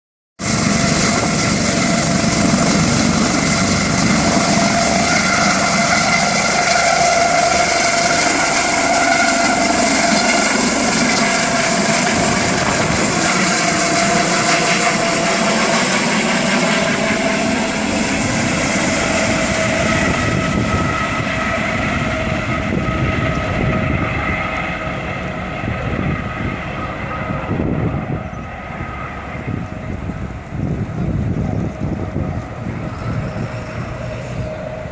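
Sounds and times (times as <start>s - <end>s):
helicopter turbine whine and rotor noise: 0.4s - 34.9s.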